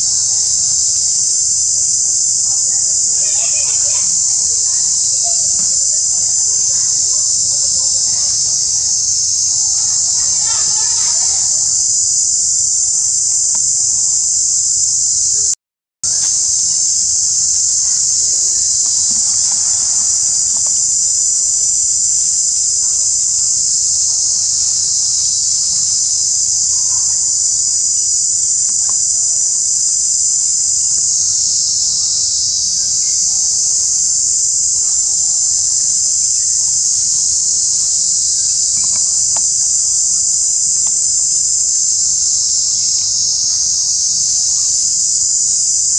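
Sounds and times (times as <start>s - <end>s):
insect chorus drone: 0.0s - 45.9s.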